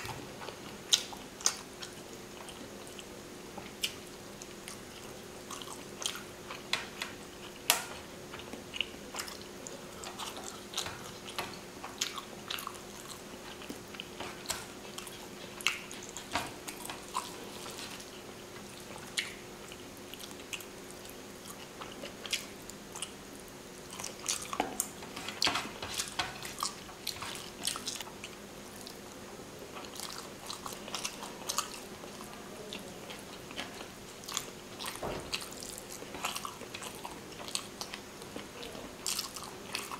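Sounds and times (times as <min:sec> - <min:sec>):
chewing: 0:00.0 - 0:23.2, 0:23.8 - 0:39.9
faint steady hum: 0:00.0 - 0:39.9.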